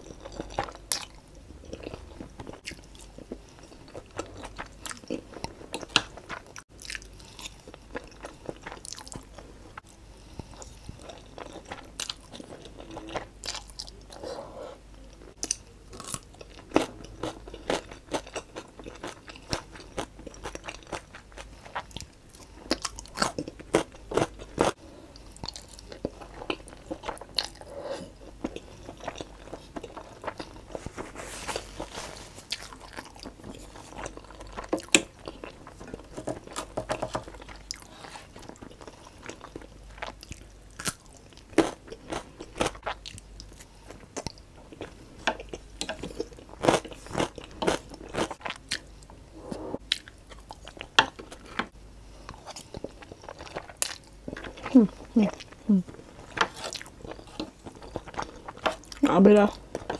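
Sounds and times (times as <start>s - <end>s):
person chewing noodles: 0.0s - 59.9s.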